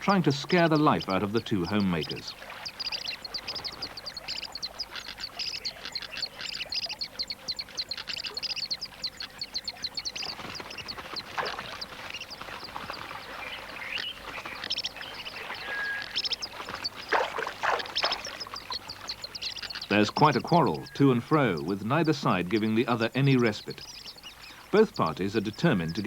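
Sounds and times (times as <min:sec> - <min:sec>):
kingfishers shrill calls: 0:00.0 - 0:26.0.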